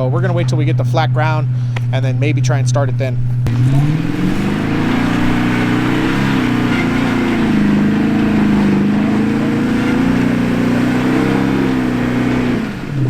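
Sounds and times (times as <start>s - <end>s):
truck engine pulling under load: 0.0s - 13.0s.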